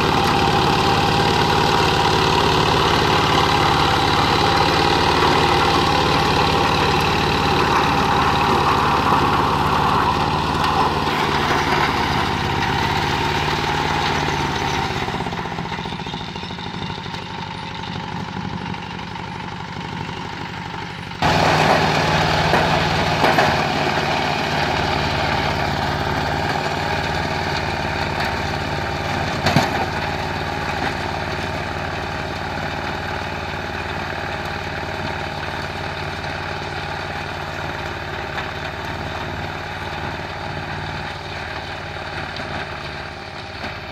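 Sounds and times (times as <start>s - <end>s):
tractor engine running under load: 0.0s - 43.9s.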